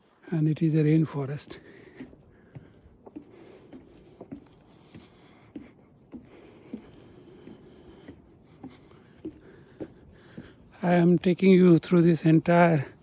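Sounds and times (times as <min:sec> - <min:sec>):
footsteps on wooden boardwalk: 0:00.0 - 0:13.0.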